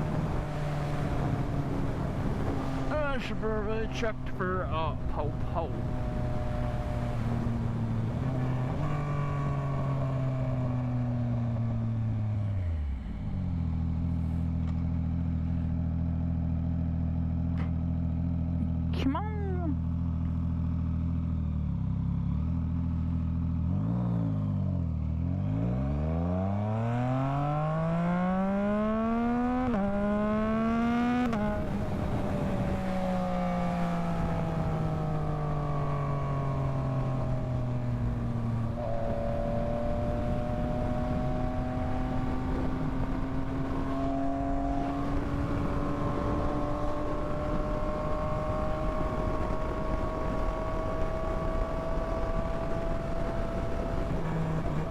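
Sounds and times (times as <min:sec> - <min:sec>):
motorcycle engine revving: 0:00.0 - 0:04.2, 0:04.9 - 0:54.9.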